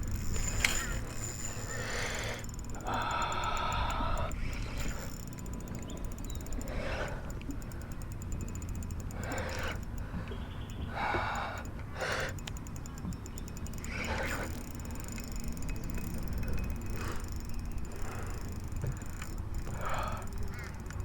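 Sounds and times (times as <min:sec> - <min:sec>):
fishing reel ratcheting: 0:00.0 - 0:21.0.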